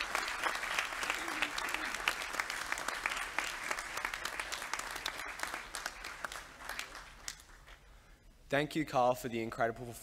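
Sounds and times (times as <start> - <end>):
audience applauding in a hall: 0.0 - 8.1.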